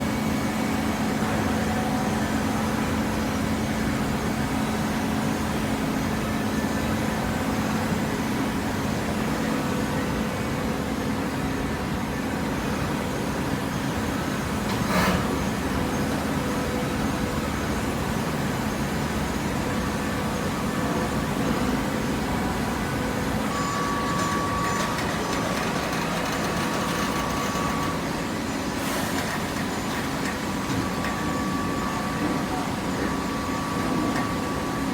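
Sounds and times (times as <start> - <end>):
baling press machinery humming: 0.0 - 34.9.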